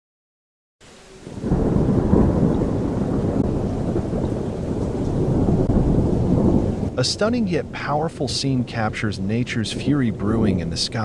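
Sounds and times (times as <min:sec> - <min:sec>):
thunder rumbling: 0:00.9 - 0:11.0.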